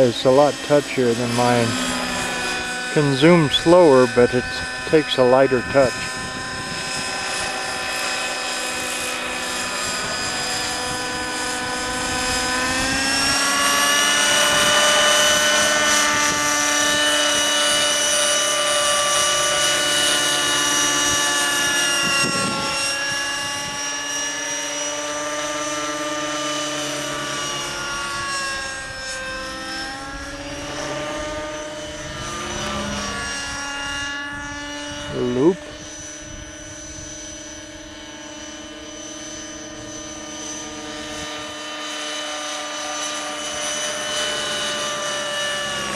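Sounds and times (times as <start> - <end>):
model helicopter engine high revs: 0.0 - 45.9.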